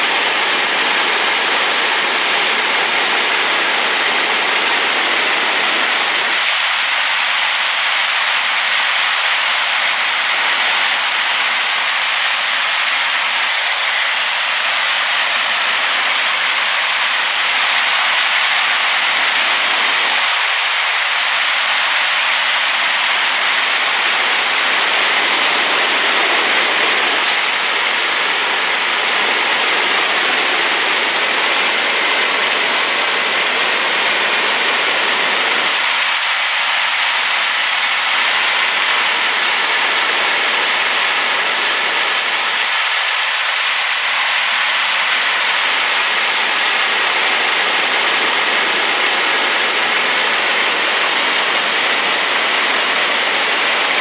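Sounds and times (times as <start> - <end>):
waterfall pouring: 0.0 - 54.0.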